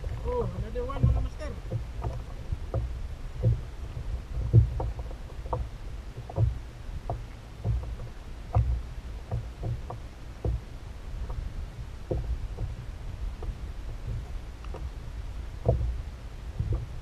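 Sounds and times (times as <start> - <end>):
waves slapping a kayak hull: 0.0 - 17.0.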